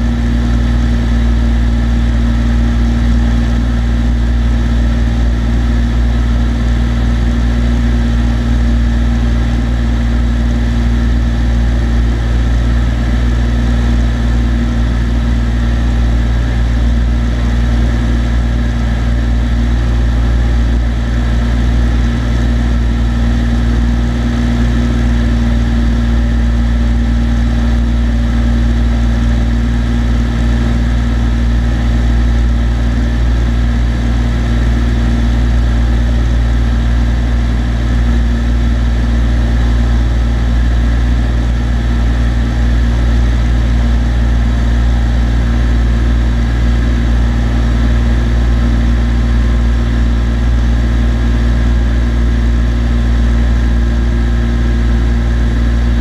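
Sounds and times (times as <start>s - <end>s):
airplane engine droning in cabin: 0.0s - 56.0s.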